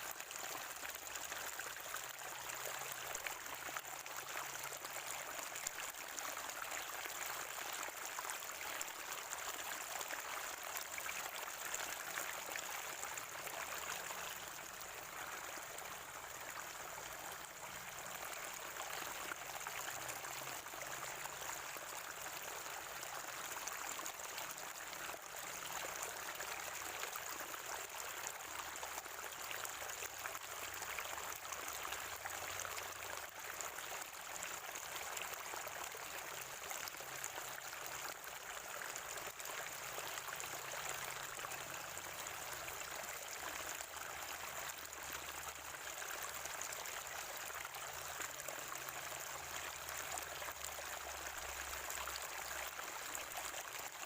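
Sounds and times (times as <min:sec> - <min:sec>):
spring water running and gurgling: 0:00.0 - 0:54.0.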